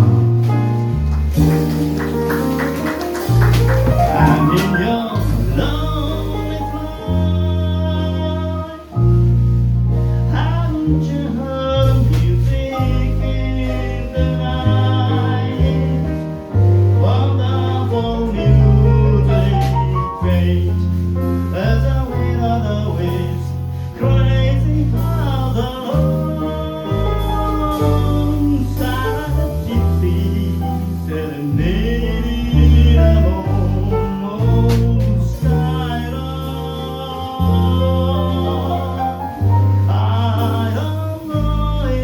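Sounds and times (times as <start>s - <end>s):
bass sustained low notes: 0.0s - 42.0s
man singing a jazz ballad: 0.0s - 42.0s
piano: 0.0s - 42.0s.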